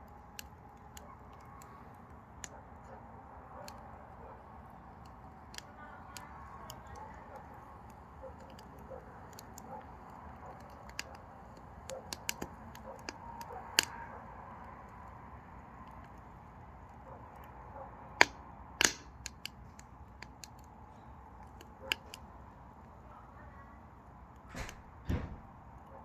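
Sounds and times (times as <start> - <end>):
firewood crackling and snapping: 0.0 - 26.0
low fire noise: 0.0 - 26.0.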